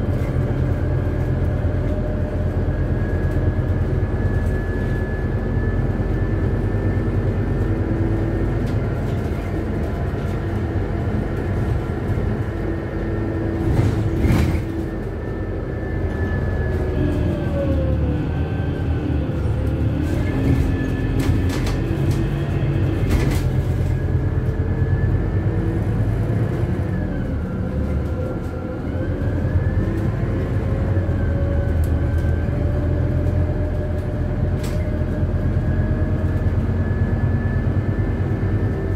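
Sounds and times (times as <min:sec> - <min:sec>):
bus body rattles: 0:00.0 - 0:17.4, 0:19.4 - 0:26.8, 0:27.5 - 0:37.3
bus engine rumble: 0:00.0 - 0:38.9.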